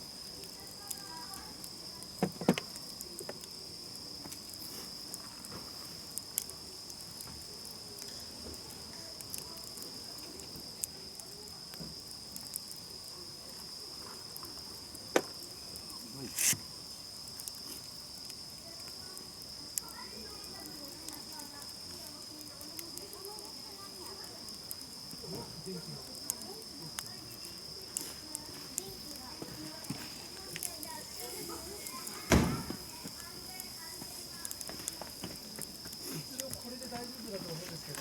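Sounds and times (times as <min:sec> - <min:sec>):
campfire popping: 0:00.0 - 0:38.0
crickets trilling: 0:00.0 - 0:38.0.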